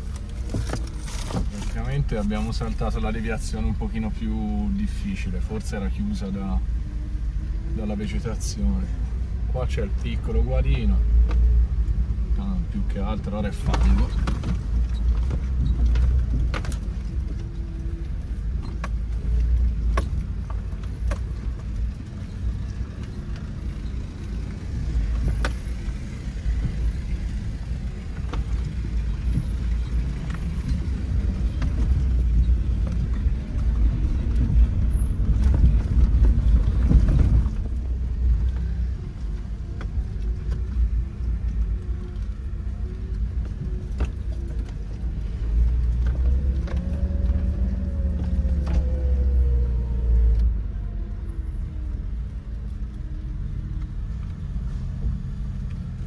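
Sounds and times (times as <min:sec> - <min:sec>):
car engine rumble: 0:00.0 - 0:56.0.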